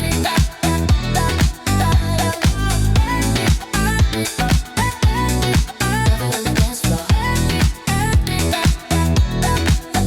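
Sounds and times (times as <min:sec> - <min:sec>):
dance-pop music: 0:00.0 - 0:10.0
synth bass: 0:00.0 - 0:10.0
kick drum beat: 0:00.4 - 0:09.9.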